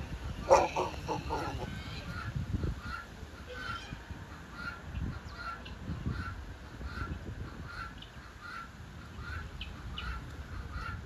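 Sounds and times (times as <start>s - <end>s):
bird calling: 0.4s - 11.0s.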